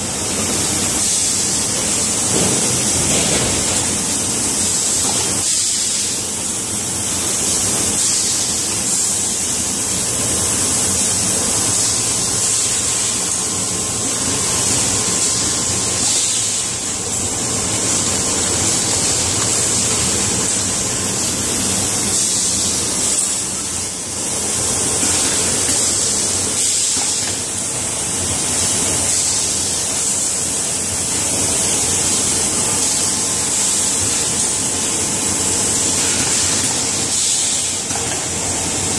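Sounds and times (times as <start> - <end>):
machine hiss: 0.0 - 38.9.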